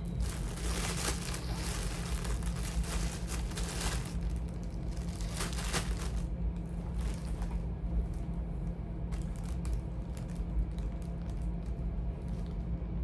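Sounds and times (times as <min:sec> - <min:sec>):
cables rustling and clattering: 0:00.0 - 0:13.0
steady low hum: 0:00.0 - 0:13.0.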